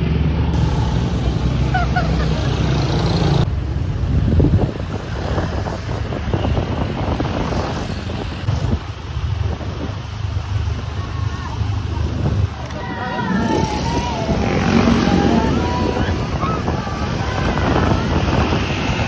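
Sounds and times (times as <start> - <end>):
vehicle engine rumble: 0.0 - 19.0
wind buffeting microphone: 3.4 - 19.0.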